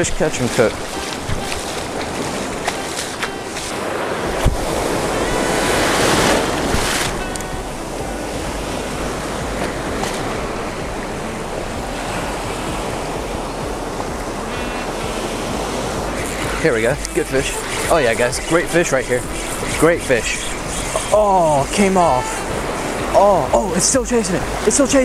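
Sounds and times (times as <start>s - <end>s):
surf washing over shallows: 0.0s - 25.0s
wind on microphone: 0.0s - 25.0s.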